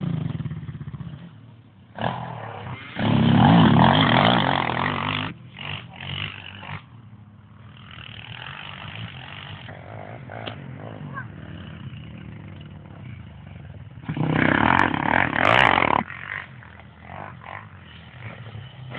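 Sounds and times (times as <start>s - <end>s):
quad bike engine revving: 0.0s - 18.9s.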